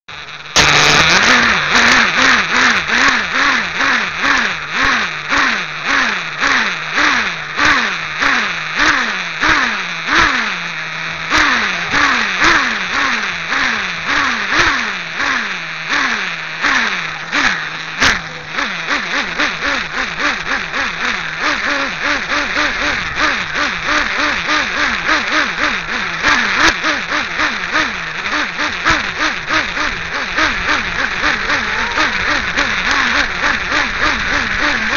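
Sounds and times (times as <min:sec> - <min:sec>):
model engine revving: 0:00.1 - 0:34.9.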